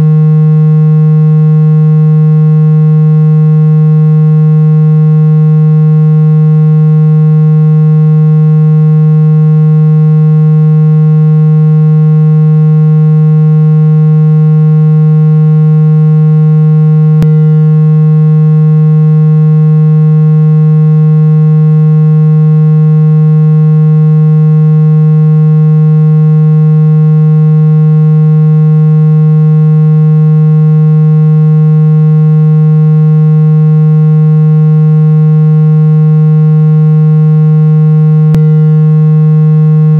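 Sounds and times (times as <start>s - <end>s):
low buzzing tone: 0.0s - 39.9s.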